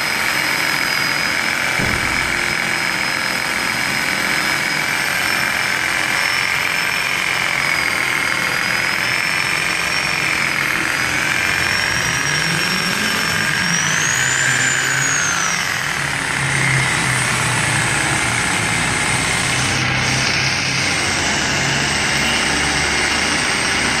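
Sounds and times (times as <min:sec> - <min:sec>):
machine polisher motor whine: 0:00.0 - 0:24.0.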